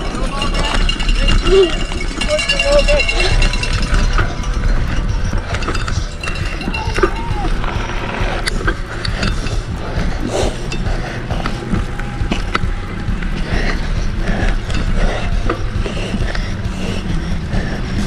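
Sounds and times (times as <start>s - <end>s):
bike chain rattling and clicking: 0.0s - 18.0s
low rumble: 0.0s - 18.0s.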